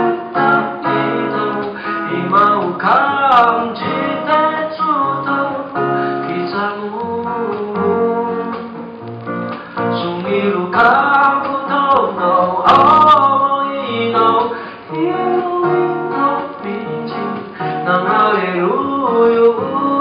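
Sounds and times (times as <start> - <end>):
acoustic guitar strumming: 0.0 - 20.0
man singing into microphone: 0.0 - 20.0.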